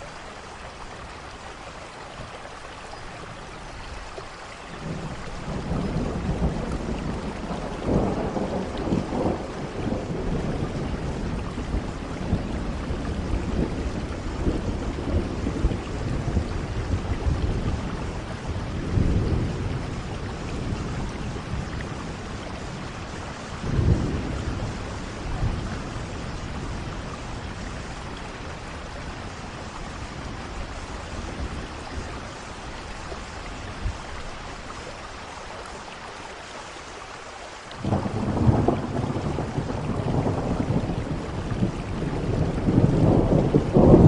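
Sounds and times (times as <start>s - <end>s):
steady rain: 0.0s - 44.0s
thunder rumbling: 4.8s - 34.9s, 37.8s - 44.0s.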